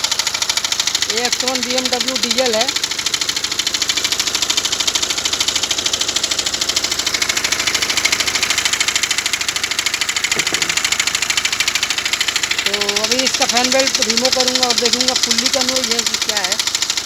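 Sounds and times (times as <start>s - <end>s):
diesel engine knocking idle: 0.0s - 17.0s.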